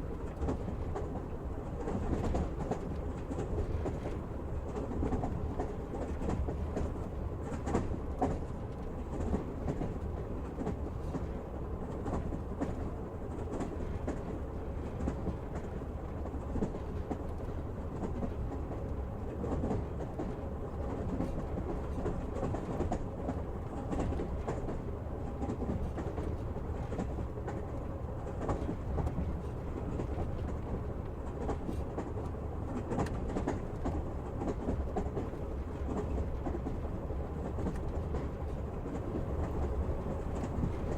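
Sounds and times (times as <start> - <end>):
train carriage rumble: 0.0 - 40.9.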